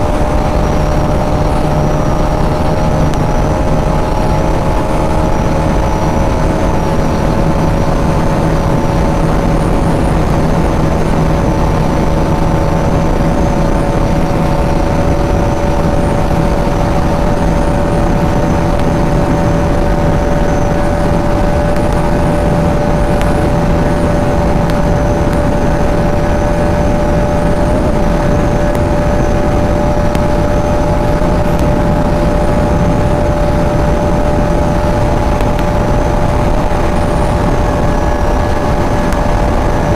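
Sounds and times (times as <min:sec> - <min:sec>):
motorcycle engine at high revs: 0:00.0 - 0:39.9
wind noise rushing: 0:00.0 - 0:39.9.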